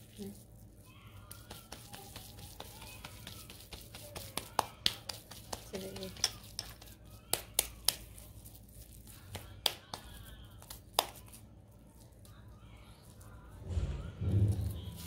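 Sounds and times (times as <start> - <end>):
hands shaping patties: 0.0 - 15.0.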